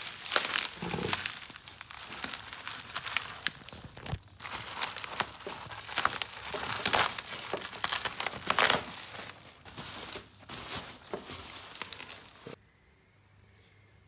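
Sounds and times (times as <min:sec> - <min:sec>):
bubble wrap crinkling: 0:00.0 - 0:12.6.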